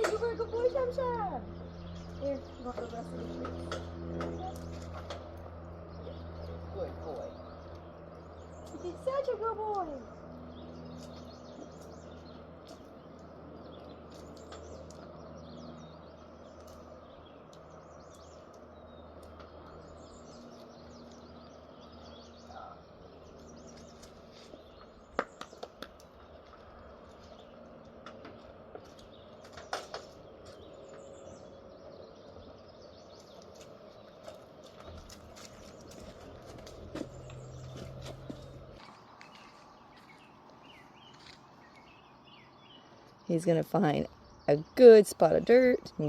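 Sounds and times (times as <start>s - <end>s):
small birds chirping: 0.0s - 46.0s
steady low hum: 0.0s - 46.0s.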